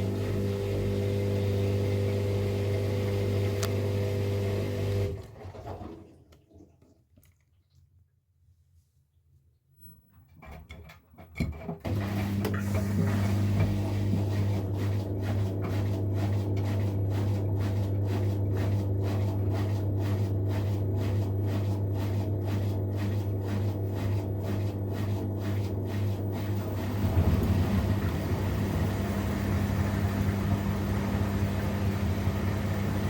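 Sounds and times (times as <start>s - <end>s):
washing machine hum and swishing: 0.0s - 7.0s, 11.6s - 33.0s.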